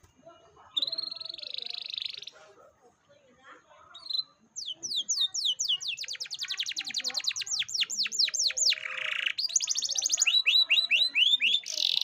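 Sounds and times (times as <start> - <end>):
canary singing trills: 0.0 - 2.7, 3.8 - 12.0.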